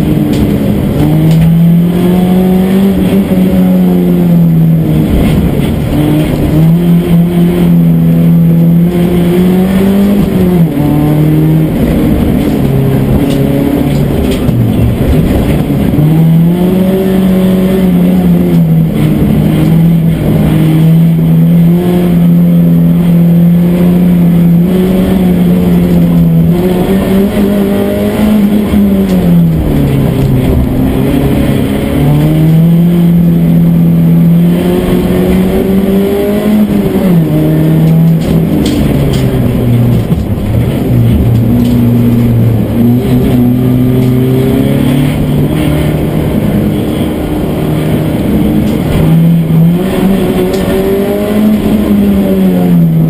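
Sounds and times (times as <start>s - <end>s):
car engine under hard load: 0.0s - 53.0s.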